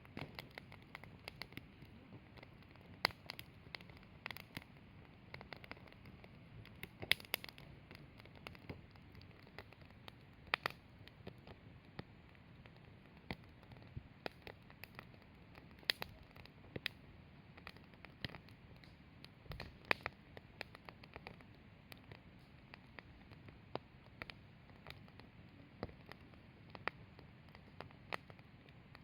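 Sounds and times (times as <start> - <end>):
campfire pops and snaps: 0.0 - 29.0
faint steady hiss: 0.0 - 29.0.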